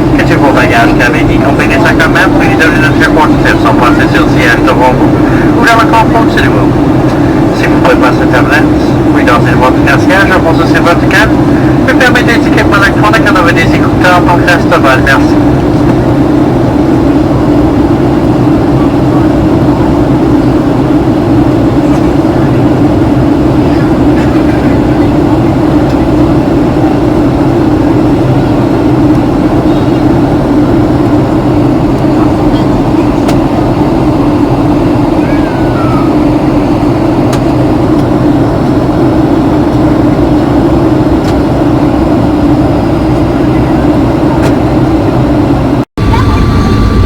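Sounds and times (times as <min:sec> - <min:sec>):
airplane cabin drone: 0:00.0 - 0:47.0
constant hum: 0:00.0 - 0:47.0.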